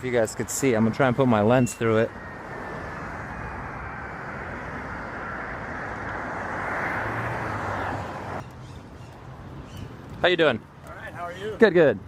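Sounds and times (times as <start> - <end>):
scooter road noise: 0.0 - 10.2
rushing wind: 0.0 - 12.0.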